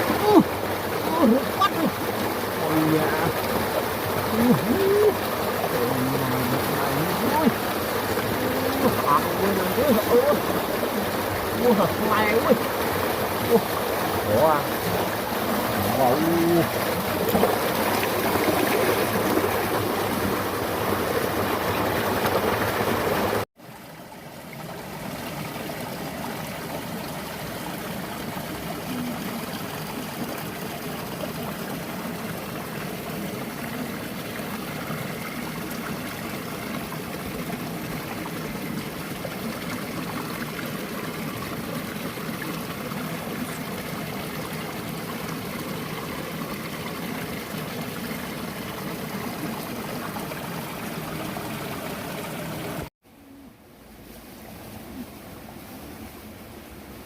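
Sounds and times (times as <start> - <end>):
water trickling and splashing: 0.0 - 52.9.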